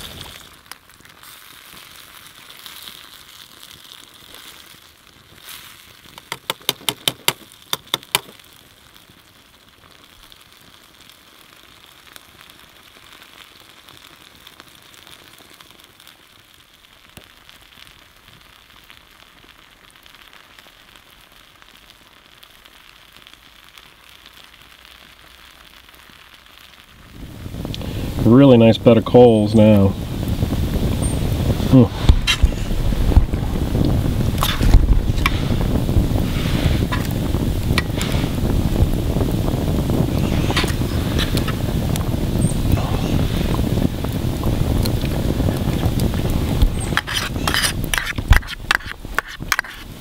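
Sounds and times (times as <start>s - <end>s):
campfire crackling: 0.0s - 50.0s
food sizzling in a pan: 0.0s - 50.0s.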